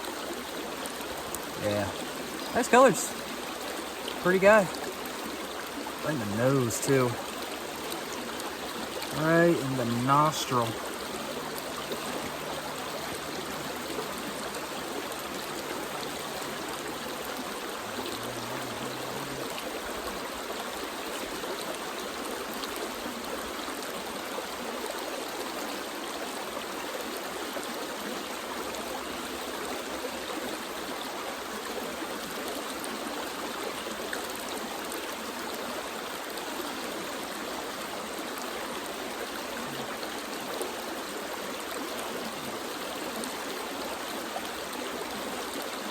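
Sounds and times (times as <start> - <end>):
creek water running over stones: 0.0 - 45.9.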